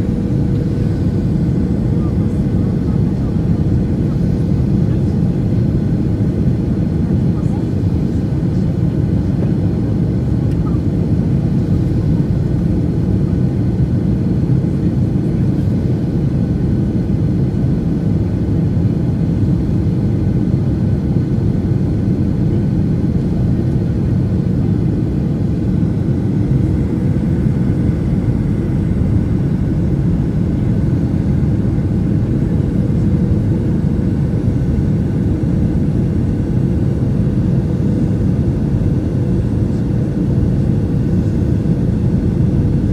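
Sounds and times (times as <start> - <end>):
jet engines and airflow rumble: 0.0 - 42.9.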